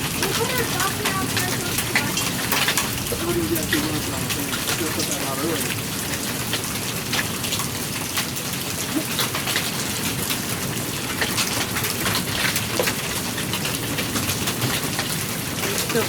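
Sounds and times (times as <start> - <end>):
hailstones striking hard surfaces: 0.0 - 16.0
hiss of falling rain: 0.0 - 16.0.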